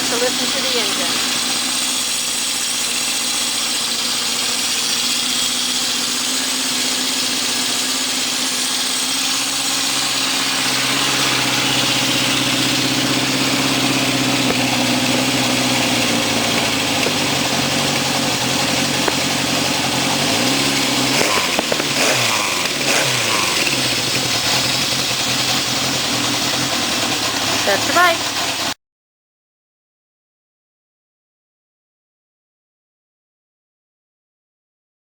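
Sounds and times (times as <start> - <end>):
motorcycle engine running: 0.0 - 28.8.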